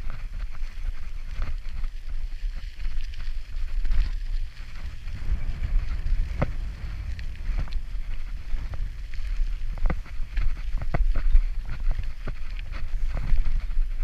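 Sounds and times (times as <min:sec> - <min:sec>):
bicycle on gravel road: 0:00.0 - 0:14.0
bike frame rattling and clicking: 0:00.0 - 0:14.0
wind buffeting microphone: 0:00.0 - 0:14.0.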